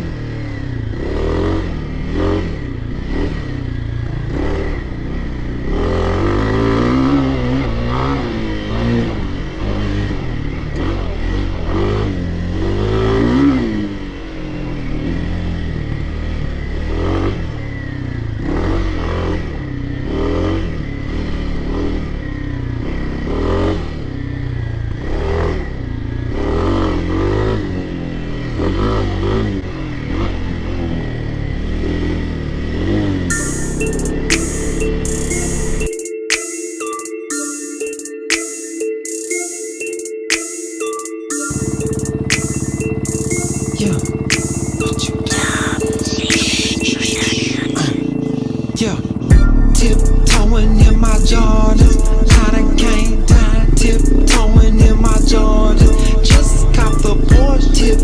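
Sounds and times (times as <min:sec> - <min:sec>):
dirt bike engine revving: 0:00.0 - 0:35.9, 0:41.5 - 0:58.0.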